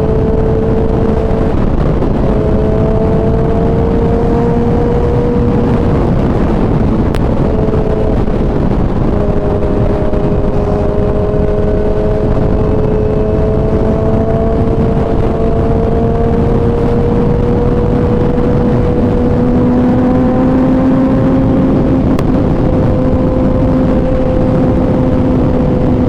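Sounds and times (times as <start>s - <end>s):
heavy rushing noise: 0.0s - 26.0s
motorcycle engine under way: 0.0s - 26.0s.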